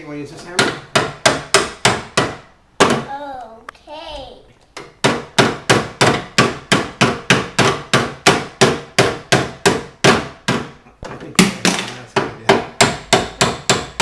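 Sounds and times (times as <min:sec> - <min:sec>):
hammering nails: 0:00.4 - 0:03.2, 0:04.8 - 0:14.0.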